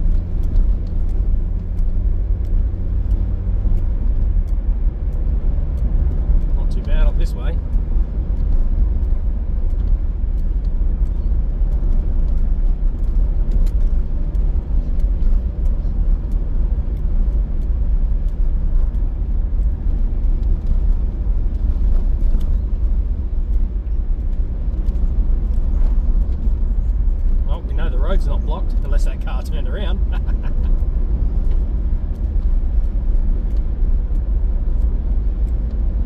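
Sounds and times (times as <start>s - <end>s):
car engine and tyre rumble: 0.0s - 36.0s.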